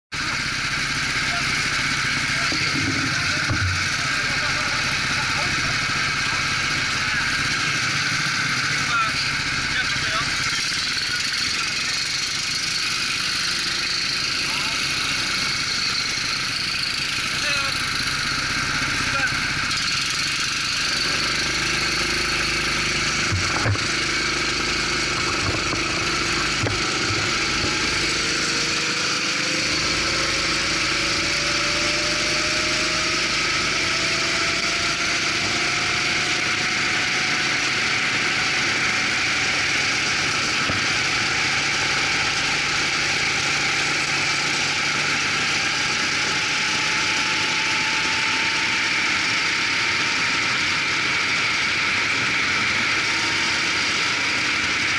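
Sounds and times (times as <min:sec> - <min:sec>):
kart engine accelerating: 0:00.2 - 0:54.9.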